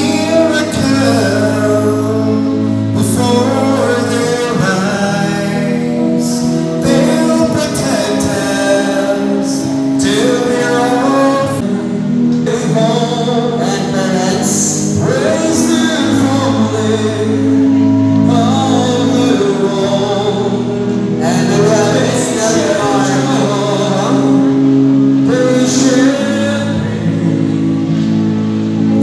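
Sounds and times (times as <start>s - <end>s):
long held chords: 0.0s - 29.0s
person singing: 0.0s - 29.0s.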